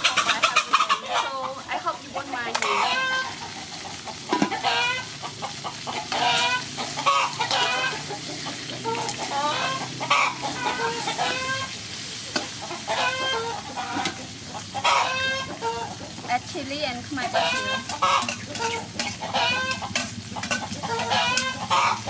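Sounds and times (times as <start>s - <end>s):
chickens clucking: 0.0s - 22.0s
food sizzling in a wok: 0.0s - 22.0s
spatula stirring in a wok: 0.0s - 22.0s.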